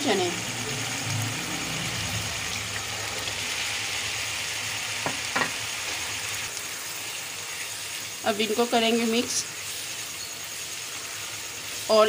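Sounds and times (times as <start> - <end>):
masala frying in a pan: 0.0 - 12.0.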